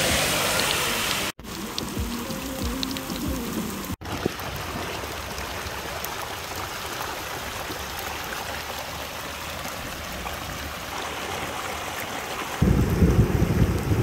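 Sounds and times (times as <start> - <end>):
stream rushing over rocks: 0.0 - 12.8.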